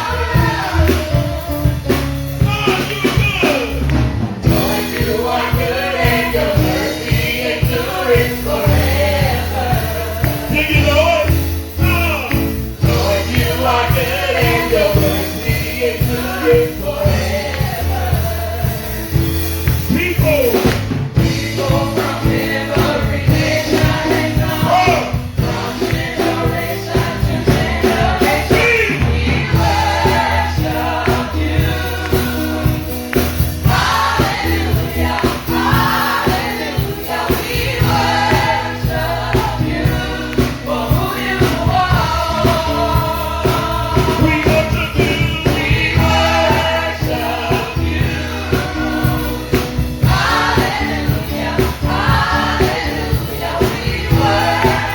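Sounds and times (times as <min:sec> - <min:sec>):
drums steady beat: 0:00.0 - 0:54.9
gospel choir singing: 0:00.0 - 0:54.9.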